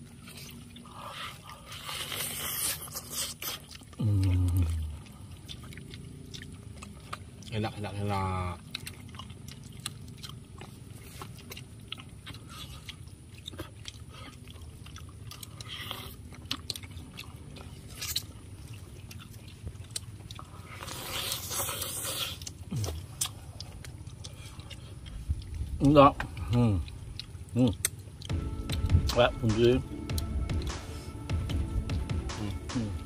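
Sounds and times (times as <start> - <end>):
person chewing with wet smacks: 0.0 - 33.0.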